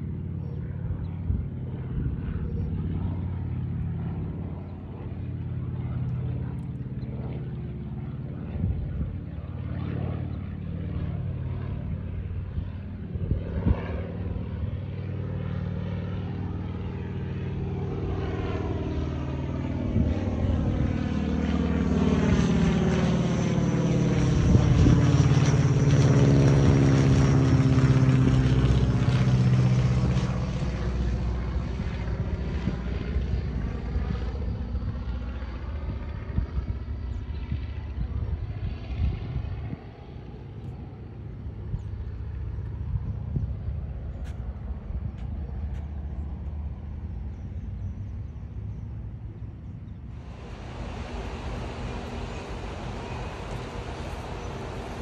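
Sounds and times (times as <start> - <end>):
biplane engine droning overhead: 0.0 - 55.0.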